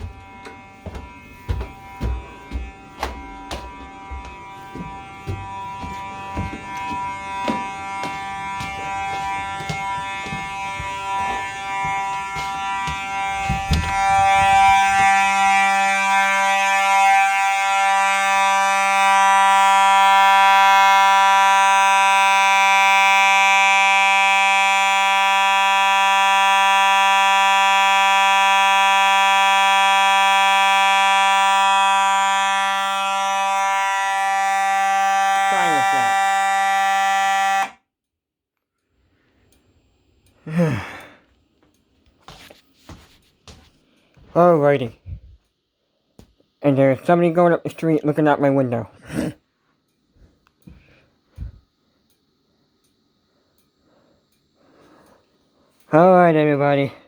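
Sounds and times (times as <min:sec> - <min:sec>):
buzzy smoke alarm tone: 0:00.0 - 0:37.9, 0:39.1 - 0:57.0.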